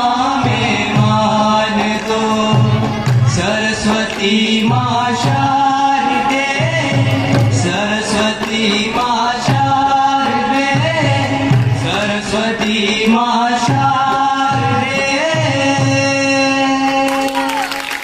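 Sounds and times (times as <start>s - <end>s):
low drum beat: 0.0s - 16.6s
devotional melody: 0.0s - 17.6s.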